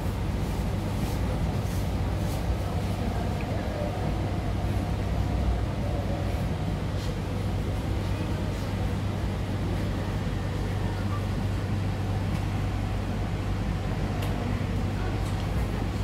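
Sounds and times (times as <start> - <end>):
train low hum: 0.0 - 16.0.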